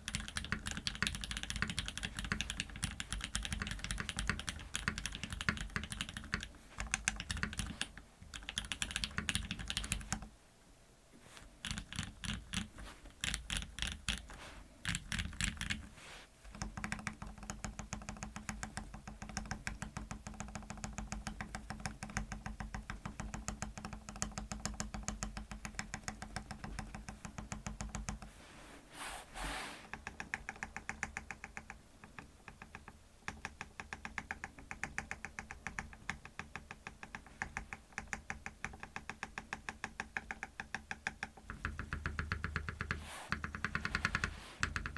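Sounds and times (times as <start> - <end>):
mechanical keyboard typing: 0.0 - 10.3, 11.6 - 15.9, 16.5 - 28.3, 29.9 - 44.9.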